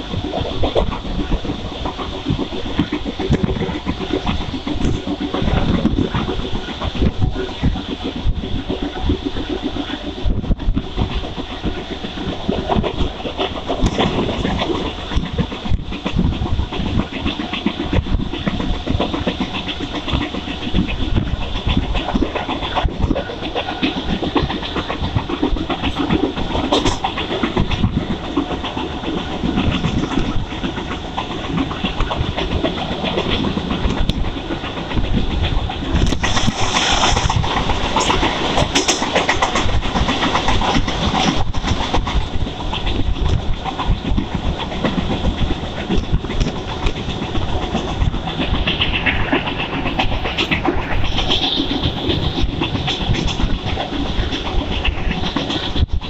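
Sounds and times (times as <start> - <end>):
train passing alongside: 0.0 - 56.0
train wheels on rails: 0.0 - 56.0.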